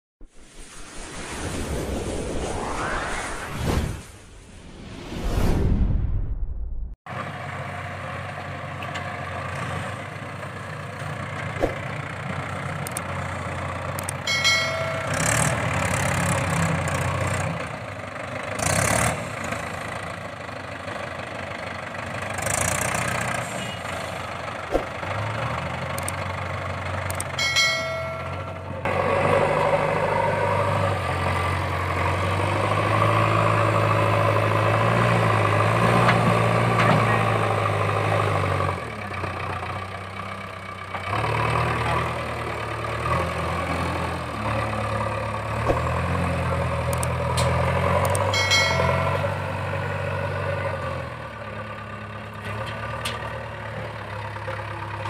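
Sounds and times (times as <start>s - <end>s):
diesel engines running: 7.1s - 55.0s.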